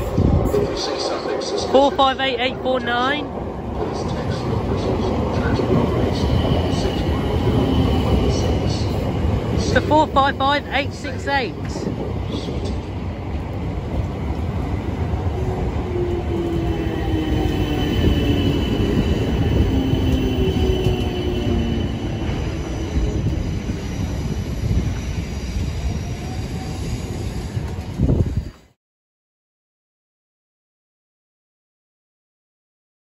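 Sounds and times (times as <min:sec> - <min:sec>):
train rumbling past: 0:00.0 - 0:28.8.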